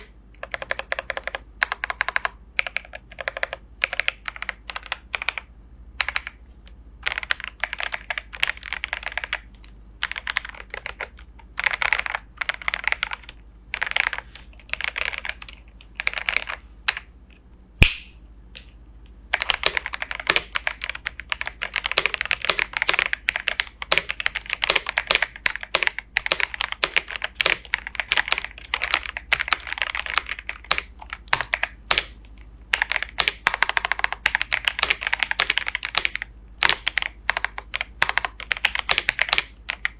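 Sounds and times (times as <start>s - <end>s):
mechanical keyboard typing: 0.0s - 6.4s, 7.0s - 17.1s, 19.3s - 39.9s.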